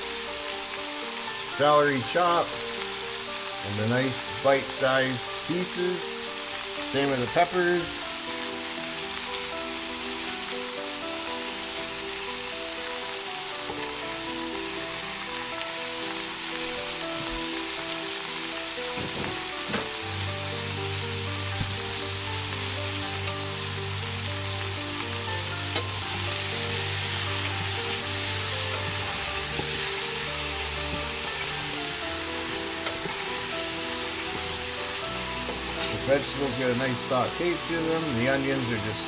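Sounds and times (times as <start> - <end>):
background music: 0.0 - 39.0
food sizzling: 0.0 - 39.0.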